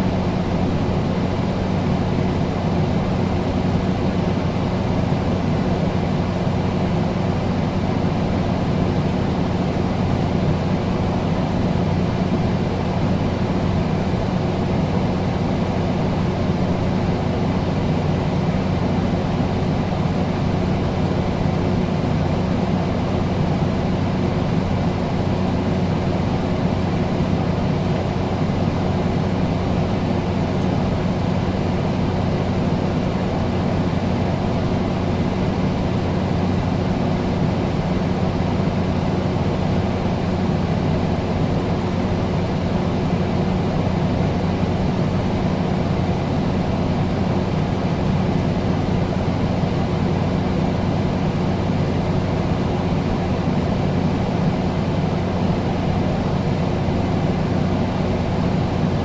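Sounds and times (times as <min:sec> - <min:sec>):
air conditioner fan rushing: 0:00.0 - 0:59.0
constant low hum: 0:00.0 - 0:59.0.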